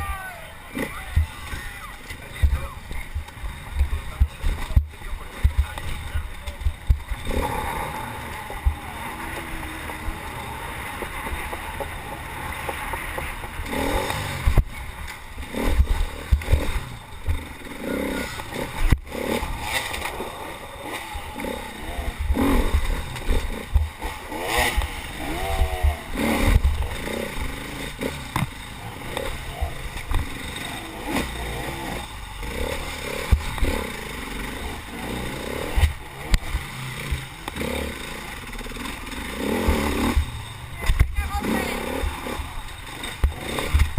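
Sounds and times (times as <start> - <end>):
racing engine running: 0.0 - 43.9.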